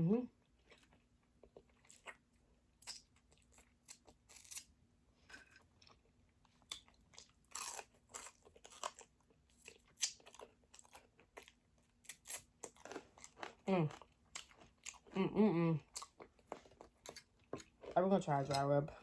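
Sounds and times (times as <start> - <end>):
crunching and chewing fried chicken: 0.4 - 19.0.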